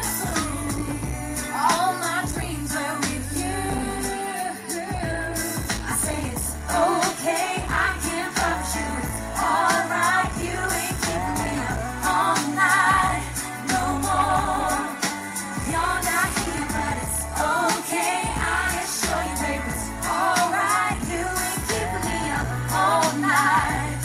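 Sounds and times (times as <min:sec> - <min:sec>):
steady bass beat: 0:00.0 - 0:01.4, 0:02.3 - 0:04.1, 0:05.0 - 0:07.0, 0:07.6 - 0:24.0
pop backing track: 0:00.0 - 0:24.0
women singing pop into microphones: 0:00.0 - 0:24.0.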